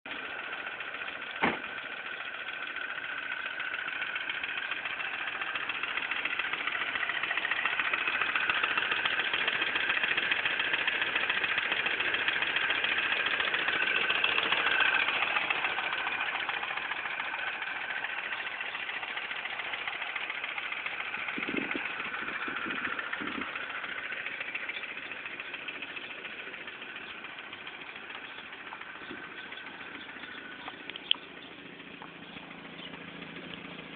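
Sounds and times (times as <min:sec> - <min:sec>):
car engine idling with ticking: 0:00.1 - 0:33.9.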